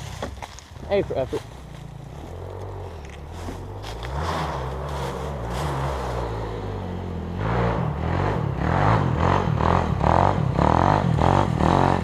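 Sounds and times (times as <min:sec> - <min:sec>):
dirt bike engine revving: 0:01.6 - 0:12.0.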